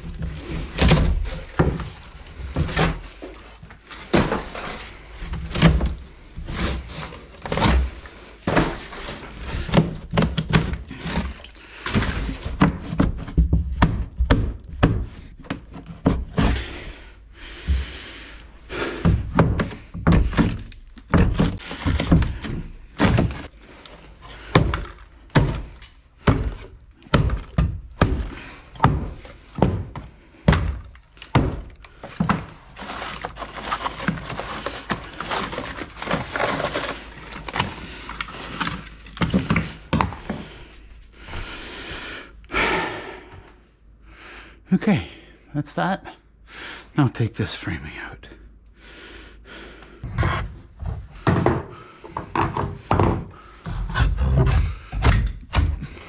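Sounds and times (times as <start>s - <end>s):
crunching and scraping debris: 0.0s - 17.0s, 17.6s - 41.4s, 50.1s - 56.0s.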